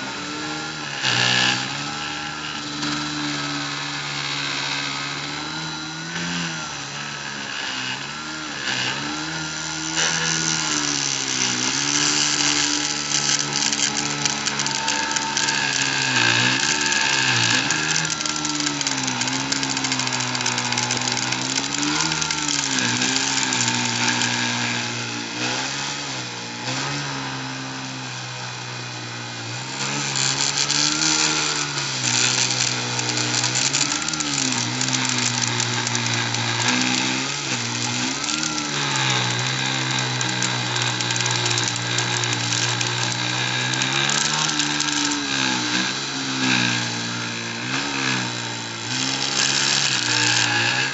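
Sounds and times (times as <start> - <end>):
rotary tool cutting acrylic: 0.0 - 27.9, 29.4 - 50.9.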